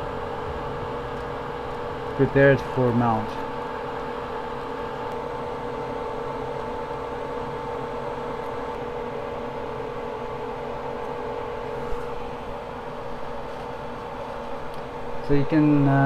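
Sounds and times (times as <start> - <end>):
extractor fan whirring: 0.0 - 16.0.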